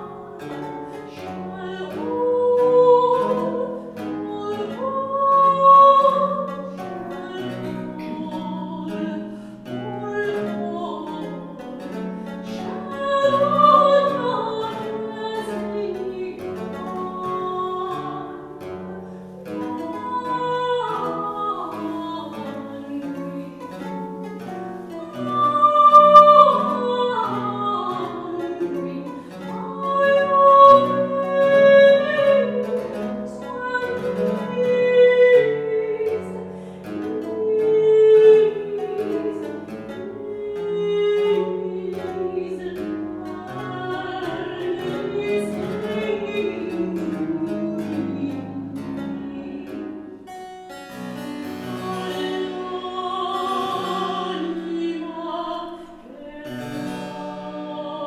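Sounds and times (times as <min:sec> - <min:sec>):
woman singing opera: 0:00.0 - 0:58.0.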